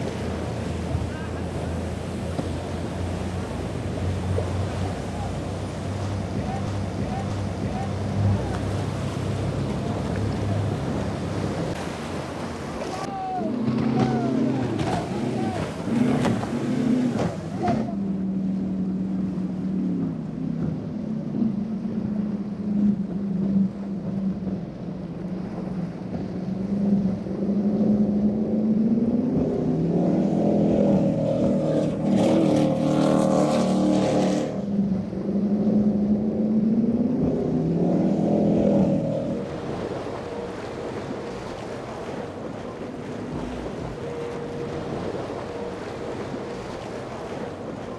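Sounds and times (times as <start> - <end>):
powerboat engines running: 0.0 - 47.9
waves: 0.0 - 47.9
wind: 0.0 - 47.9.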